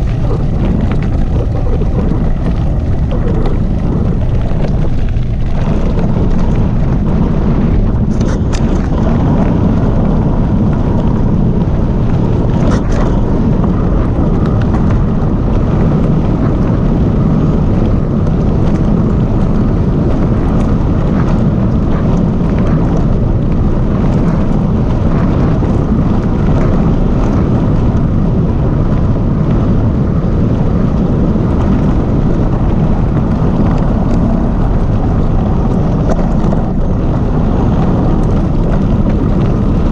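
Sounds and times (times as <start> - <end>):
bike tyres rolling over gravel: 0.0 - 39.9
wind buffeting microphone: 0.0 - 39.9.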